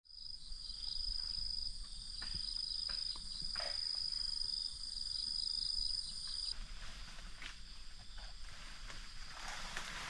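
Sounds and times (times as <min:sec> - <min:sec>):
insects trilling: 0:00.1 - 0:10.0.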